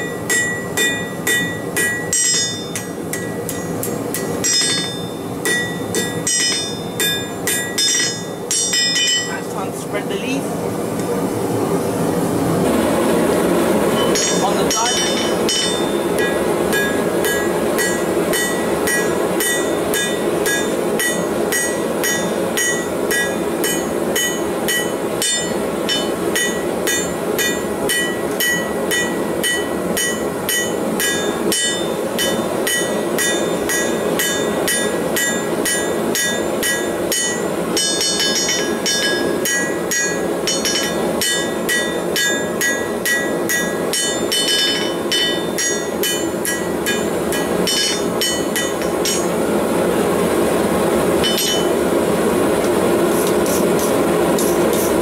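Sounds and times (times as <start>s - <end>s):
hammer striking anvil: 0.0s - 9.4s, 14.0s - 49.4s, 51.2s - 51.8s
steady rushing noise: 0.0s - 55.0s.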